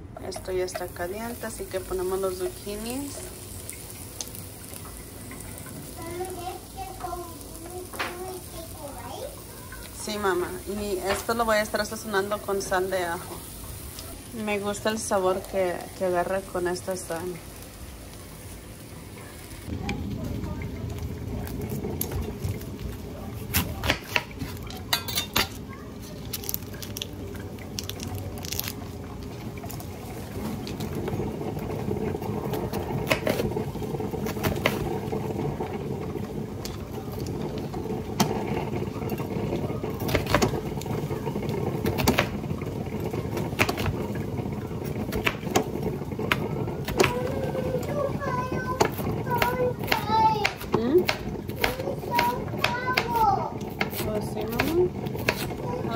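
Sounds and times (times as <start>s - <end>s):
zucchini sizzling in a frying pan: 0.0s - 55.9s.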